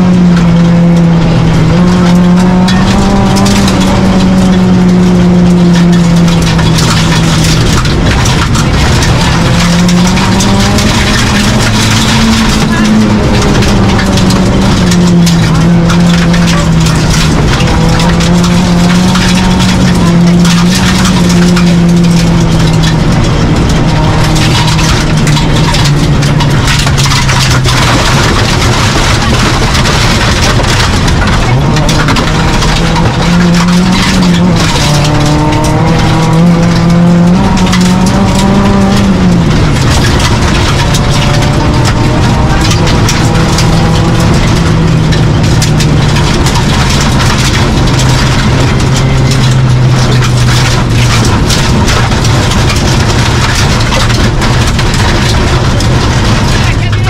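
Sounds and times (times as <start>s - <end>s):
gravel and tyre noise: 0.0s - 57.0s
rally car engine at high revs: 0.0s - 57.0s.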